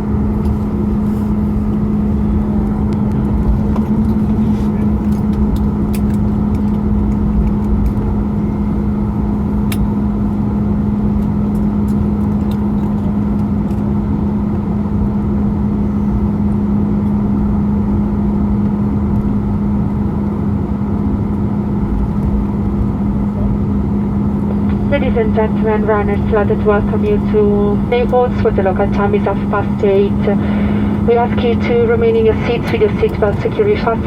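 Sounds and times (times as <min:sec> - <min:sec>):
airliner cabin rumble and hum: 0:00.0 - 0:34.0.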